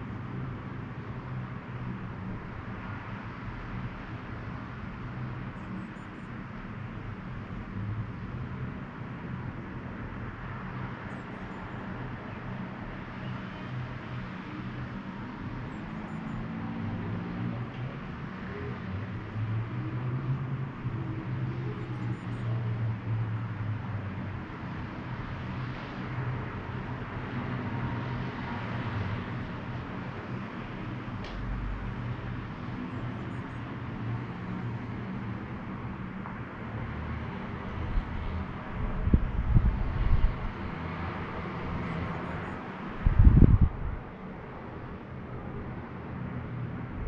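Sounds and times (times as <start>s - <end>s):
distant road traffic: 0.0s - 47.0s.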